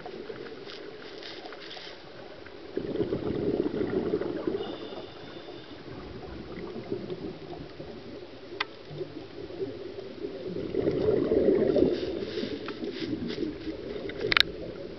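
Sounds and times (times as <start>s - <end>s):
underwater bubbling and gurgling: 0.0s - 14.9s.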